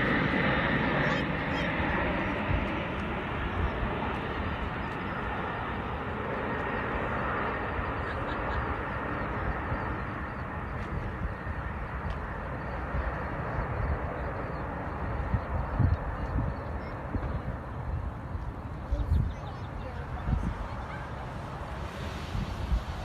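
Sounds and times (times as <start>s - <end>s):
jet engine noise: 0.0s - 23.0s
wind rumbling on microphone: 0.0s - 23.0s.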